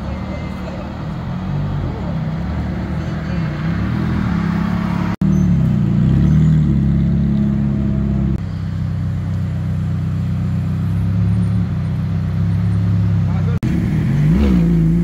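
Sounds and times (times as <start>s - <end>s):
car engines rumbling at low revs: 0.0s - 15.0s.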